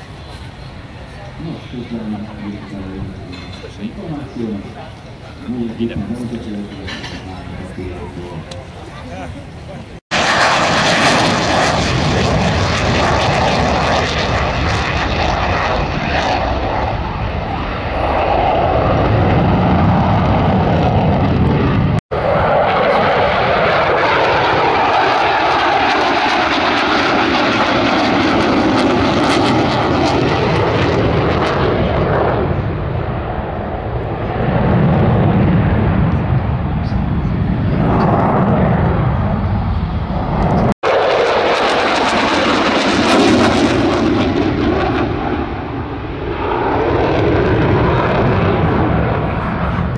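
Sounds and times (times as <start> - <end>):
aircraft engine flying past: 0.0 - 49.9.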